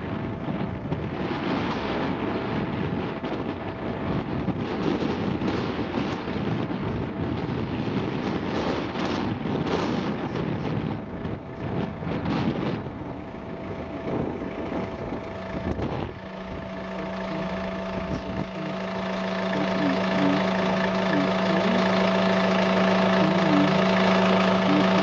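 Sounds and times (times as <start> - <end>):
low hum with higher tone: 0.0 - 25.0
wind buffeting microphone: 0.0 - 25.0.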